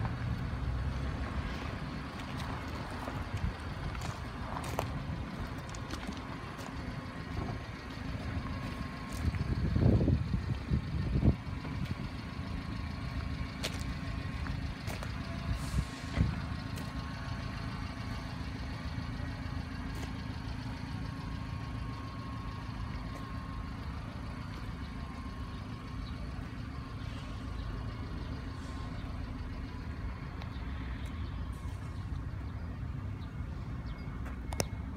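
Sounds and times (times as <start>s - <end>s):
truck engine idling: 0.0s - 34.9s.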